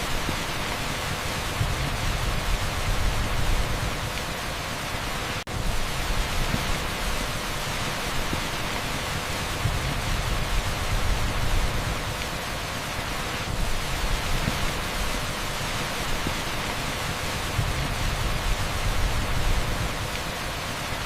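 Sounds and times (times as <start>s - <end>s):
torrential rain on a street: 0.0s - 21.0s.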